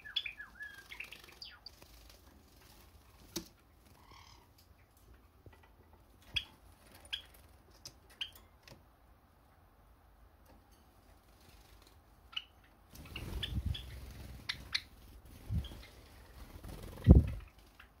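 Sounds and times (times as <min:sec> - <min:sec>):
sparrows clicking and chipping: 0:00.0 - 0:08.8, 0:11.4 - 0:18.0
quiet room hiss: 0:00.0 - 0:18.0.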